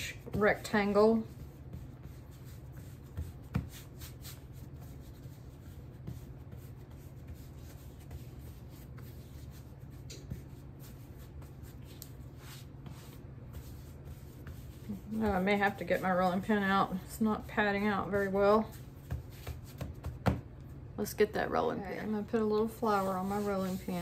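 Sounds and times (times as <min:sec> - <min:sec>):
hands patting dough: 0:00.0 - 0:20.8
low steady hum: 0:00.0 - 0:24.0.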